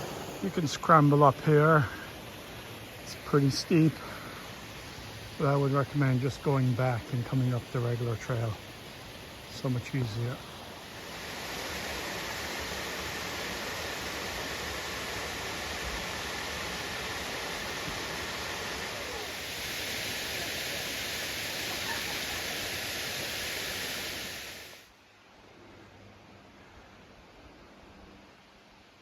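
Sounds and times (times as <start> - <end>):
creek waterfall rushing: 0.0 - 24.9
faint hiss: 0.0 - 29.0.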